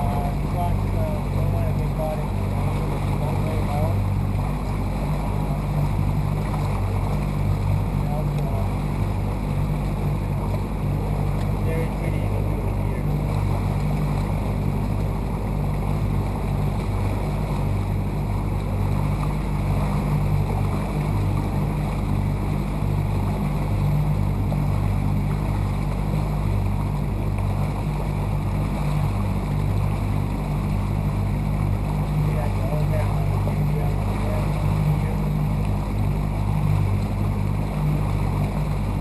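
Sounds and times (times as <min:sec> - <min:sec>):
boat motor running: 0:00.0 - 0:39.0.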